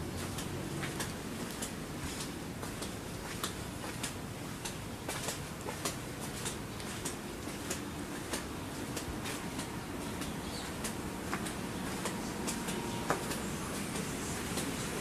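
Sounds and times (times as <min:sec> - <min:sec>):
footsteps on concrete: 0:00.0 - 0:15.0
steady background hum: 0:00.0 - 0:15.0.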